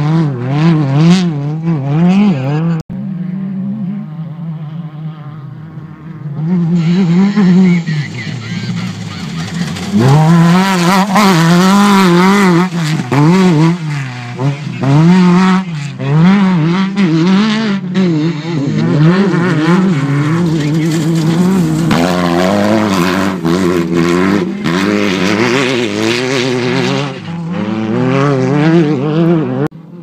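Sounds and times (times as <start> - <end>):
buggy engine revving hard: 0.0 - 30.0.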